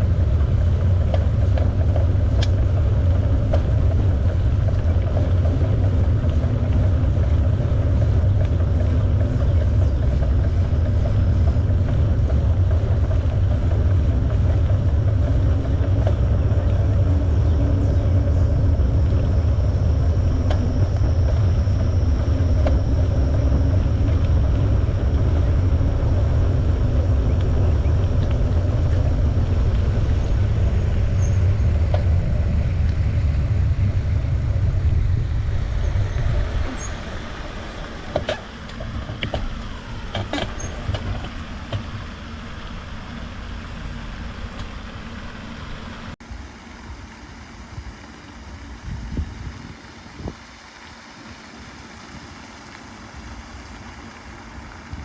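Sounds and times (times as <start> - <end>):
wind buffeting microphone: 0.0 - 46.2, 46.9 - 50.9
bicycle tyres rolling on trail: 0.0 - 55.0.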